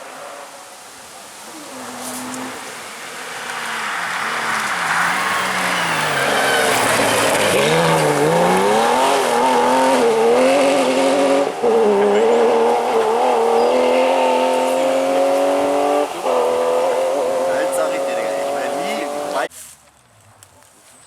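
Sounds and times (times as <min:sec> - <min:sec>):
rally car engine at high revs: 0:01.4 - 0:19.5.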